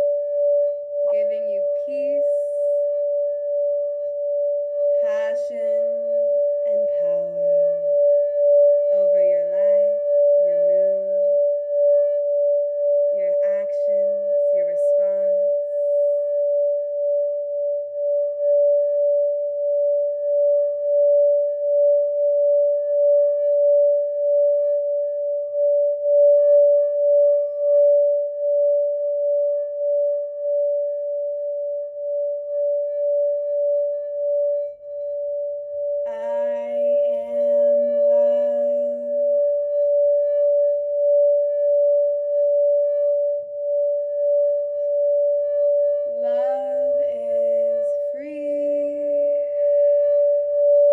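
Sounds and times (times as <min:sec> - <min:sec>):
singing bowl ringing: 0:00.0 - 0:50.9
wavering pitched tone: 0:00.0 - 0:50.9.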